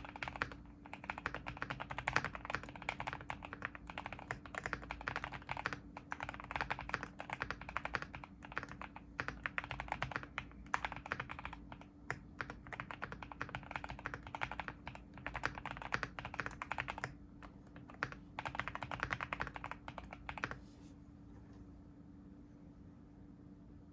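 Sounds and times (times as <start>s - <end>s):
mechanical keyboard typing: 0.0s - 20.6s.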